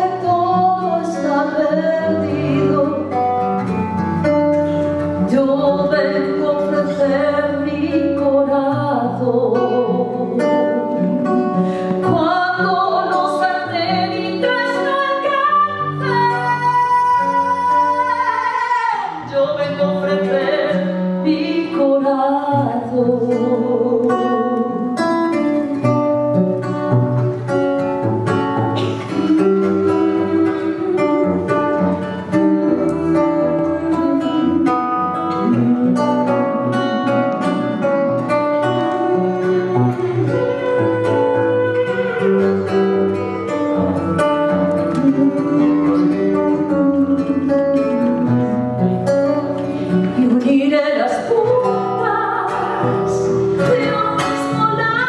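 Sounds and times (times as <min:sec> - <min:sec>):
woman singing: 0:00.0 - 0:03.8, 0:05.0 - 0:26.3, 0:28.4 - 0:55.0
acoustic guitar: 0:00.0 - 0:55.0.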